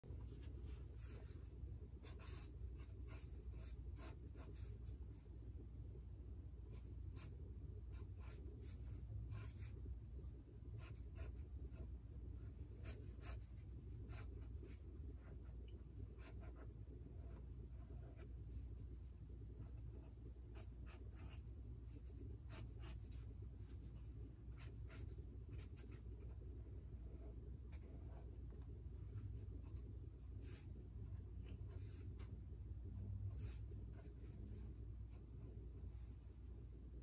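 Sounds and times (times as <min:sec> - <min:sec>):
faint low hum: 0:00.0 - 0:37.0
ink pen scratching on paper: 0:00.4 - 0:05.2, 0:06.7 - 0:09.8, 0:10.6 - 0:32.3, 0:33.3 - 0:35.6.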